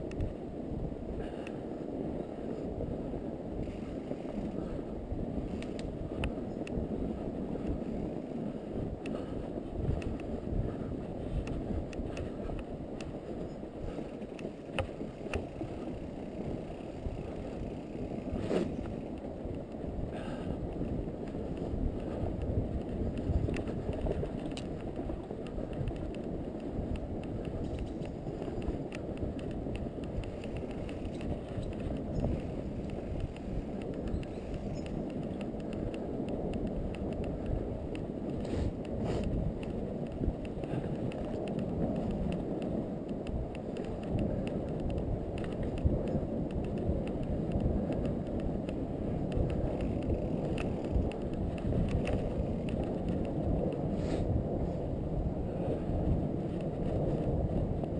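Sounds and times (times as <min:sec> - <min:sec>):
bike rolling through snow: 0:00.0 - 0:57.9.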